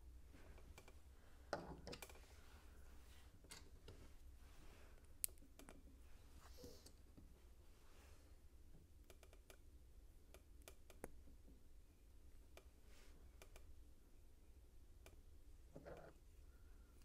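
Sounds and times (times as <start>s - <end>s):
soft rustle of parts: 0.0s - 17.0s.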